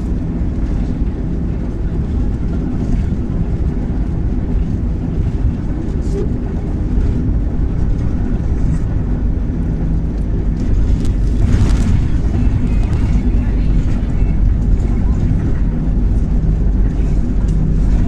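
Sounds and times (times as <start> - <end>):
bus engine drone: 0.0 - 18.0
road rumble: 0.0 - 18.0
rush of noise: 0.0 - 18.0.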